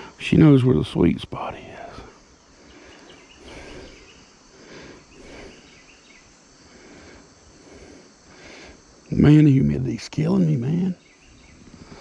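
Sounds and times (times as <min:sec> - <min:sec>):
insects chirring: 0:00.0 - 0:12.0
soft background hiss: 0:00.0 - 0:12.0.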